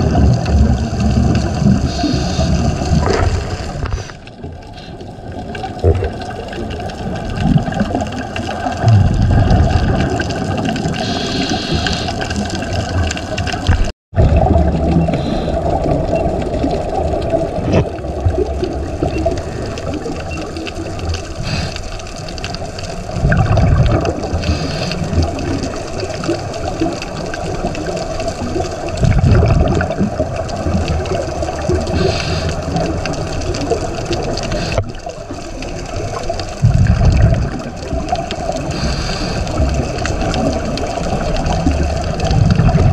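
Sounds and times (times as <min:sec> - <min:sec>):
underwater water noise: 0:00.0 - 0:42.9
regulator exhaust bubbles: 0:04.8 - 0:21.7, 0:23.0 - 0:42.9.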